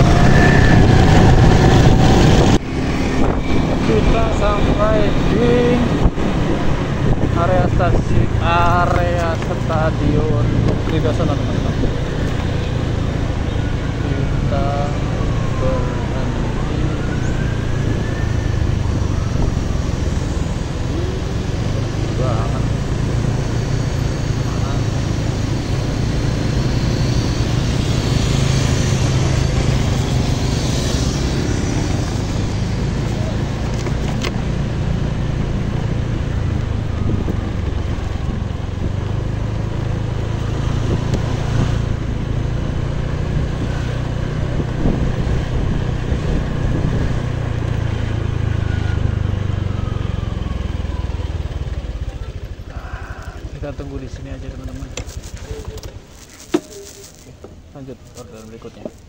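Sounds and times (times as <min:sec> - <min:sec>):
wind and road noise: 0:00.0 - 0:59.0
motor scooter running: 0:08.2 - 0:59.0.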